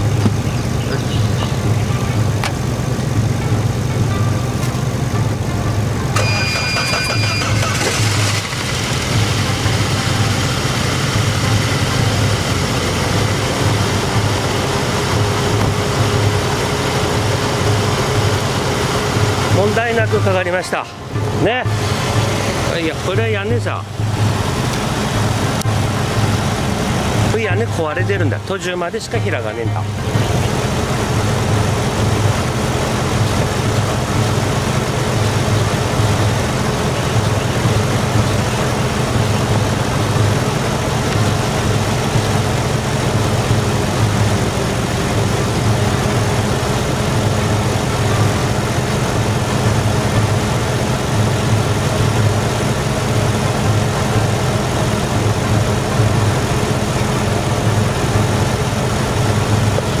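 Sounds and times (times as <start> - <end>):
car engine idling: 0.0 - 60.0.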